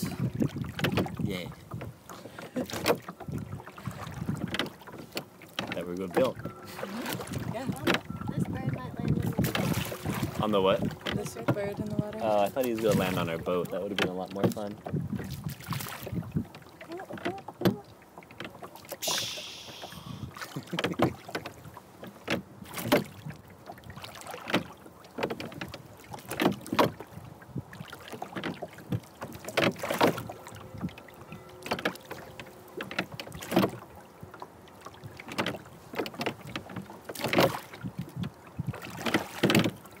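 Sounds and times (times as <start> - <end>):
oars rowing in oarlocks: 0.0 - 40.0.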